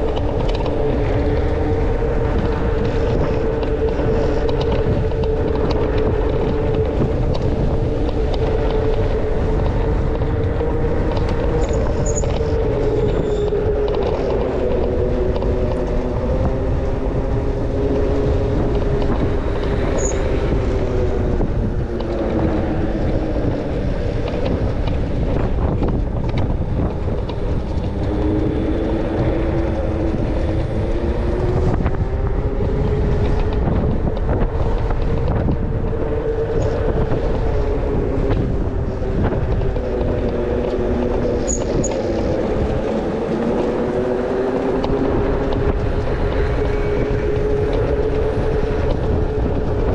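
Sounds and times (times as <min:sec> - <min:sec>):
electric bike motor whining: 0:00.0 - 0:49.9
wind rush on microphone: 0:00.0 - 0:49.9.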